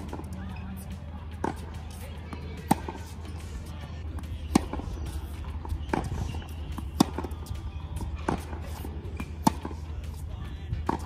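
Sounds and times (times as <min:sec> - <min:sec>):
steady low hum: 0:00.0 - 0:11.0
tennis ball struck by rackets: 0:00.0 - 0:11.0.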